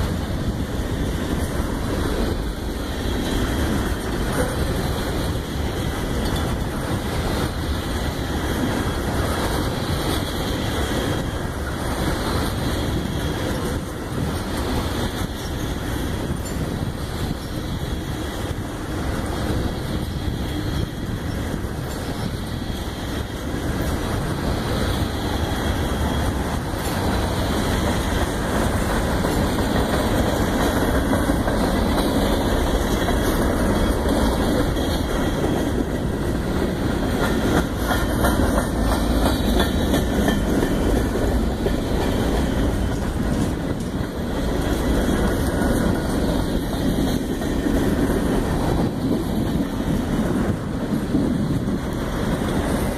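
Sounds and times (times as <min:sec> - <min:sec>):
freight train rumbling past: 0:00.0 - 0:52.9
wheels clacking over rail joints: 0:00.0 - 0:52.9.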